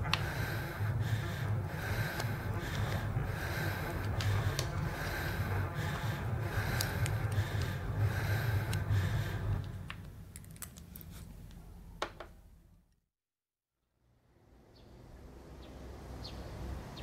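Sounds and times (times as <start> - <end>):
noisy rumble with hiss: 0.0 - 12.8, 14.1 - 17.0.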